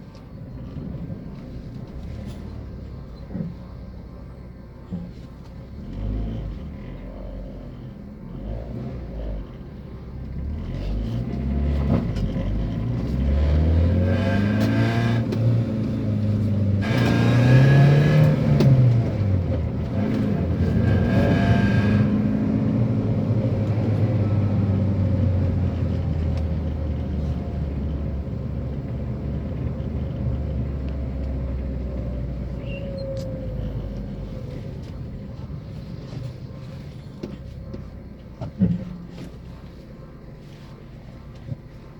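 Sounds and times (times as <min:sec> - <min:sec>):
van engine revving: 0:00.0 - 0:41.9.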